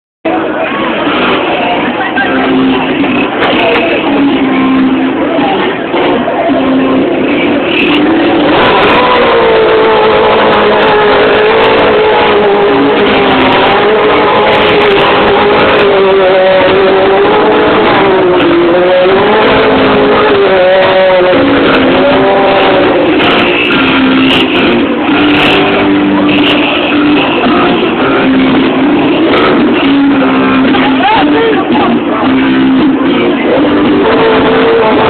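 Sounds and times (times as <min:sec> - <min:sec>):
motorcycle engines revving: 0:00.3 - 0:35.0.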